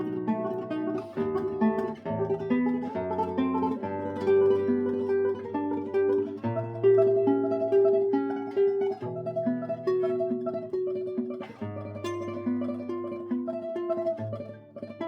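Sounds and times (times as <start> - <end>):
classical guitar tremolo piece: 0.0 - 15.0.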